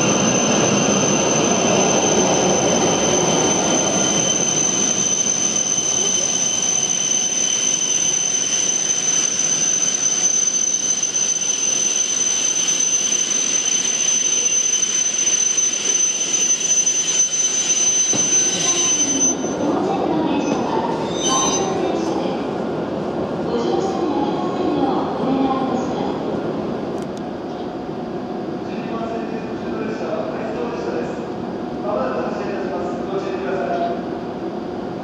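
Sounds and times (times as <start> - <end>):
steady high whine: 0.0 - 35.0.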